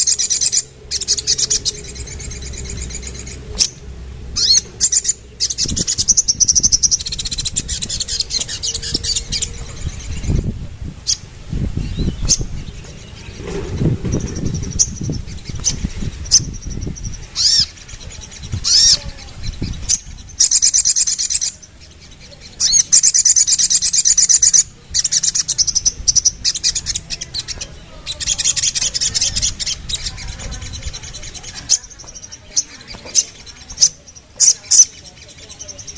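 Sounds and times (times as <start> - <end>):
sunbird chirping and trilling: 0.0 - 35.9.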